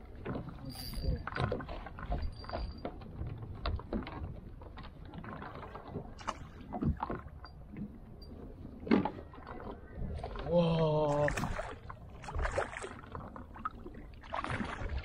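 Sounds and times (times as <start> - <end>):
small waves slapping a kayak hull: 0.0 - 15.0.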